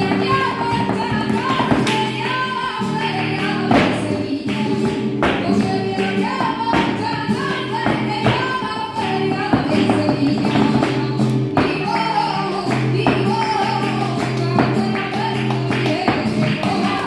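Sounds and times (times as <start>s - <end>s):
person singing: 0.0s - 17.0s
spanish guitar: 0.0s - 17.0s.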